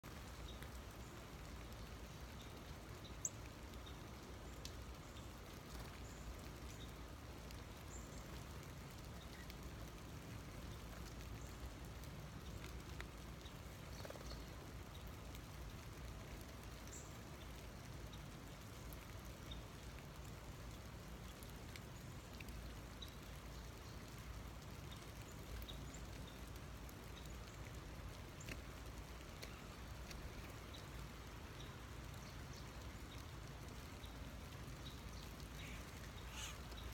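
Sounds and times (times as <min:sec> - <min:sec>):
patter of wintry precipitation: 0:00.0 - 0:36.9.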